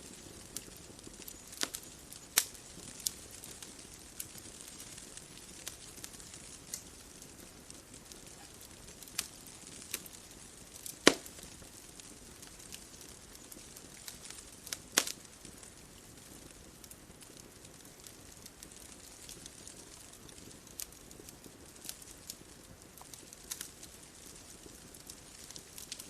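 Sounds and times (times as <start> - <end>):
faint steady hiss: 0.0 - 26.0
wood fire popping and snapping: 0.0 - 26.0.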